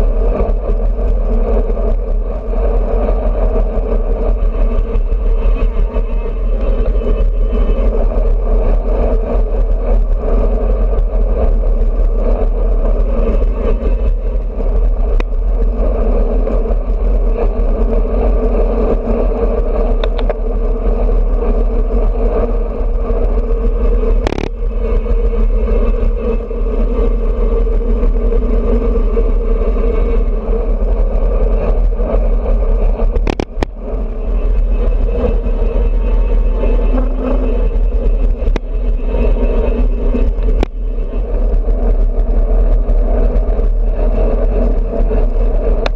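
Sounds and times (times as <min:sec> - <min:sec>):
wind rush and road noise: 0:00.0 - 0:45.9.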